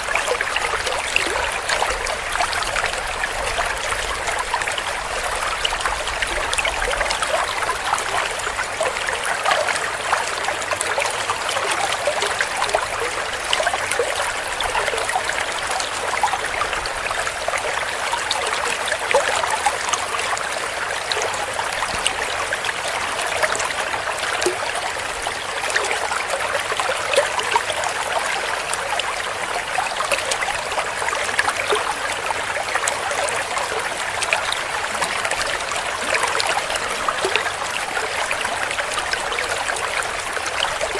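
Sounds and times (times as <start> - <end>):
stream flowing and gurgling: 0.0 - 40.9.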